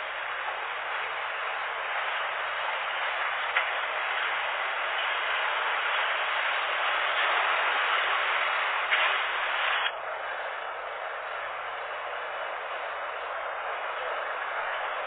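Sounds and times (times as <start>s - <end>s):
rushing machine noise: 0.0s - 15.0s.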